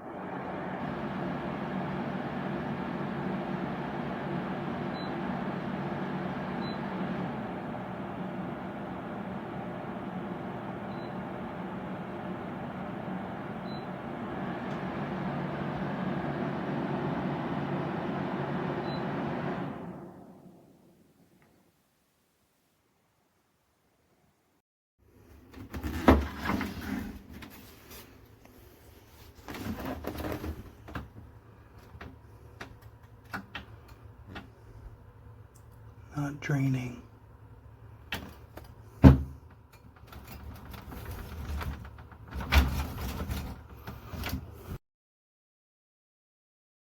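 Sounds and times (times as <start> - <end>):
air conditioner fan hum: 0.0 - 21.1, 25.1 - 44.8.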